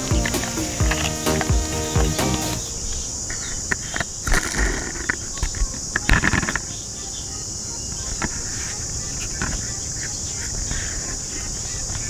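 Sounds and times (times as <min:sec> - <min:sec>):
high buzz of insects: 0:00.0 - 0:12.0.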